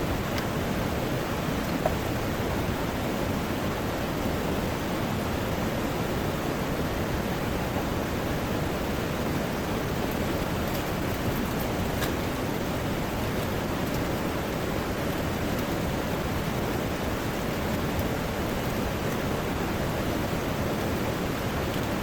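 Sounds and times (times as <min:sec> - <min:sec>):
heavy rain: 0:00.0 - 0:22.0
rushing river water: 0:00.0 - 0:22.0.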